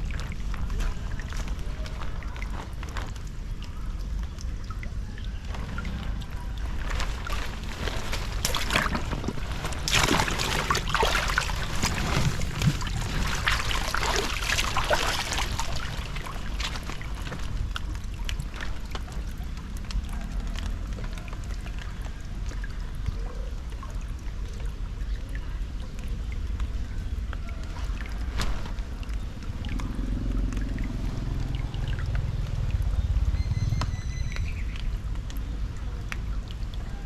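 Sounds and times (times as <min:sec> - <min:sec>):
constant low rumble: 0:00.0 - 0:37.0
floodwater pouring and splashing: 0:00.0 - 0:37.0.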